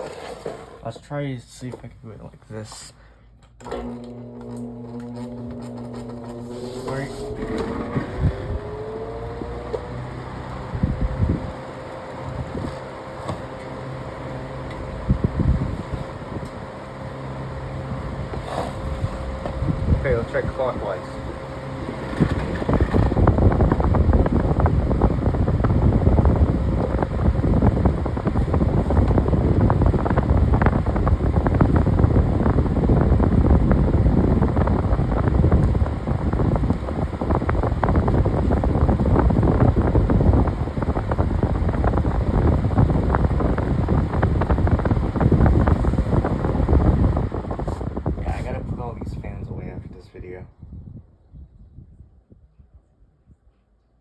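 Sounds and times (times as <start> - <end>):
fan wind buffeting microphone: 4.5 - 54.0.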